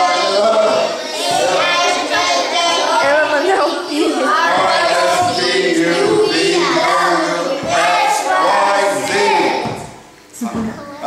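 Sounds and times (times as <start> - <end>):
children singing in unison: 0.0 - 10.0.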